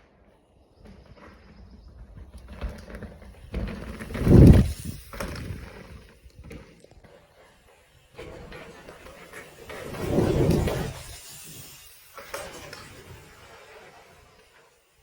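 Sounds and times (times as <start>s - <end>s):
mountain bike riding noise: 0.0s - 15.0s.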